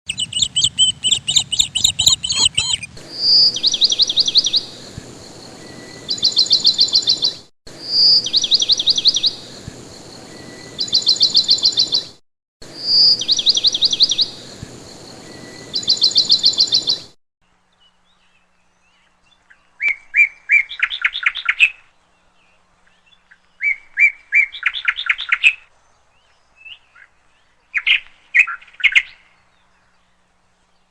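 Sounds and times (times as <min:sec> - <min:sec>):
songbird singing trills: 0:00.1 - 0:30.9
background hiss: 0:02.2 - 0:30.9.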